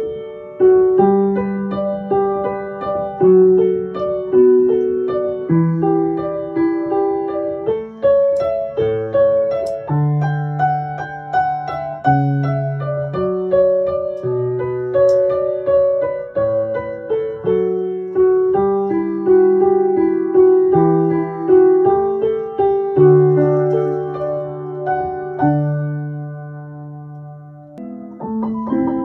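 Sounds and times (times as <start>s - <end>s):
gentle solo piano piece: 0.0s - 29.0s.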